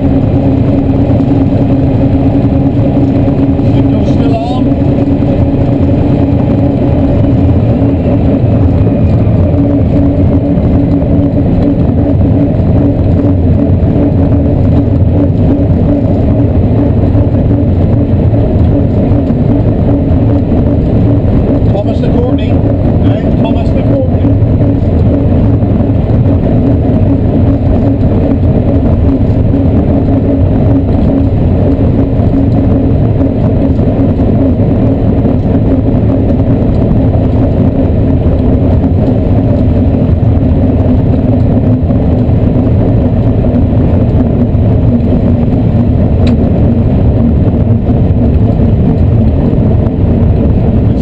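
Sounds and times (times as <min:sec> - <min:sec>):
locomotive engine droning: 0:00.0 - 0:51.0.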